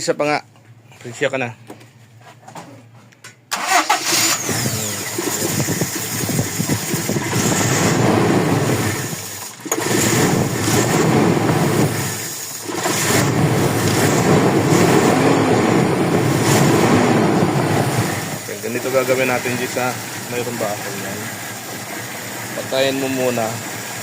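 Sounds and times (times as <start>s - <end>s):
car engine cranking and running: 3.5s - 24.0s.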